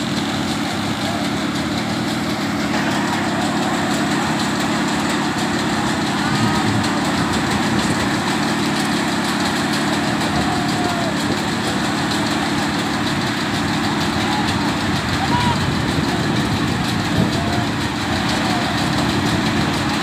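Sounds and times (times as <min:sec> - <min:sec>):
engine droning: 0:00.0 - 0:20.0
faint voices: 0:00.0 - 0:20.0.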